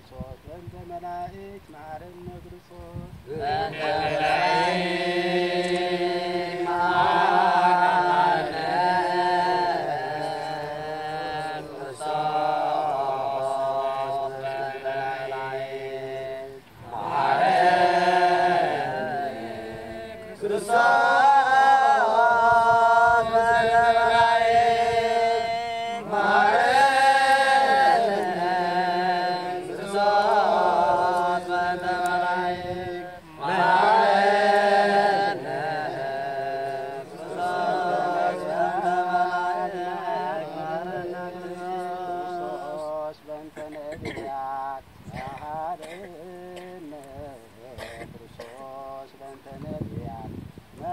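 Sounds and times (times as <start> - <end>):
person chanting a prayer: 0.3 - 50.9.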